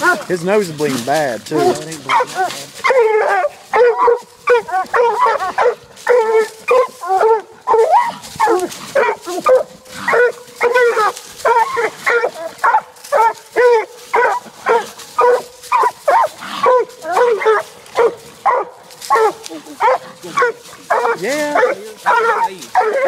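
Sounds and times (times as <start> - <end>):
hounds barking: 0.0 - 23.0.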